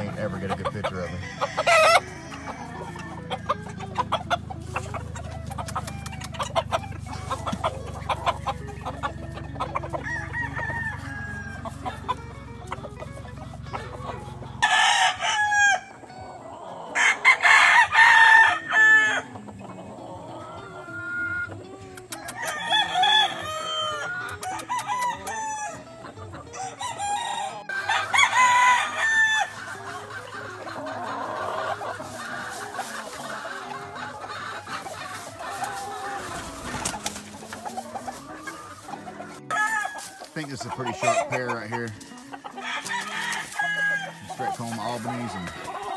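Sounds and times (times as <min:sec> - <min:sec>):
soft clucking: 0:00.0 - 0:14.6, 0:19.2 - 0:26.8, 0:29.4 - 0:45.9
roosters crowing: 0:00.0 - 0:45.9.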